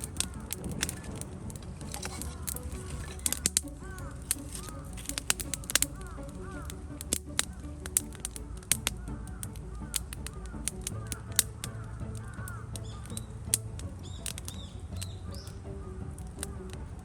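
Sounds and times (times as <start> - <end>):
birds calling faintly: 0.0 - 17.0
campfire crackling and popping: 0.0 - 17.0.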